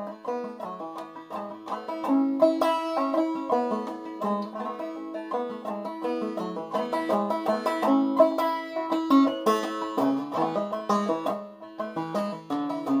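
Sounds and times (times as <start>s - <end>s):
banjo plucked melody: 0.0s - 13.0s.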